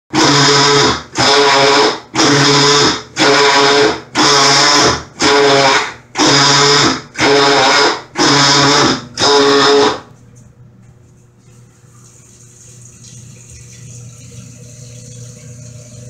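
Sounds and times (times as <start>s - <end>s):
washing machine motor whir: 0.1s - 16.0s.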